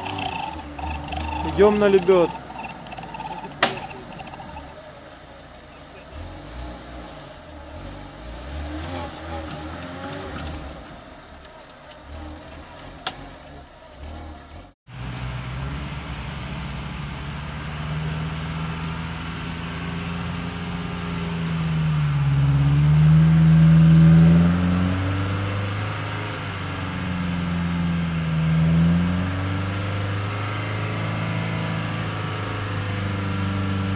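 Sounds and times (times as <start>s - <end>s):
jeep engine revving under load: 0.0s - 33.9s.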